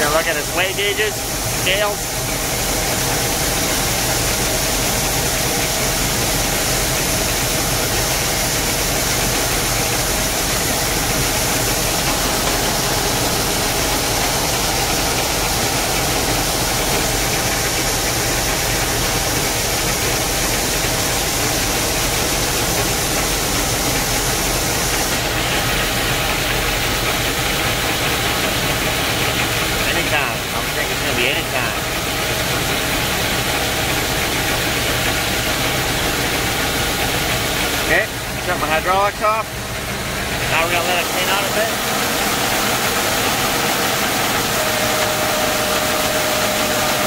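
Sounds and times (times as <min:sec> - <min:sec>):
tractor engine and auger humming: 0:00.0 - 0:47.0.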